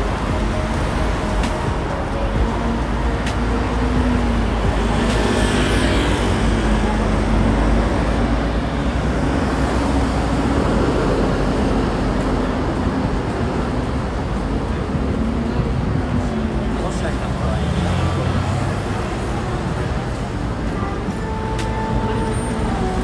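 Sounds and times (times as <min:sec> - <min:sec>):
traffic passing: 0:00.0 - 0:23.0.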